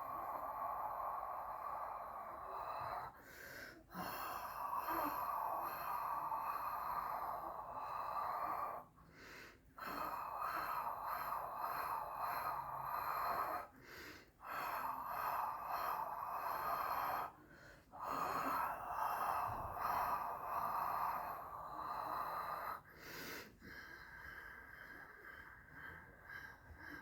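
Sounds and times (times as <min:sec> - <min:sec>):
person breathing slowly: 0:00.0 - 0:27.0.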